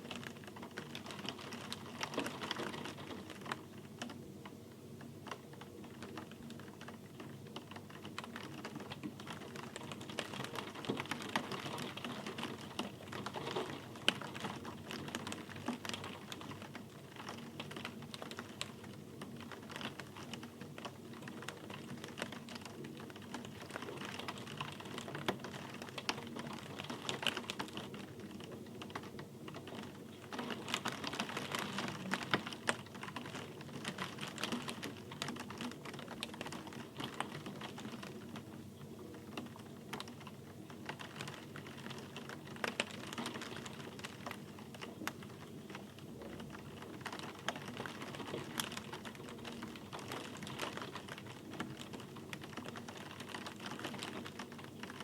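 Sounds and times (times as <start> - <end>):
rain drops on hard surface: 0.0 - 55.0.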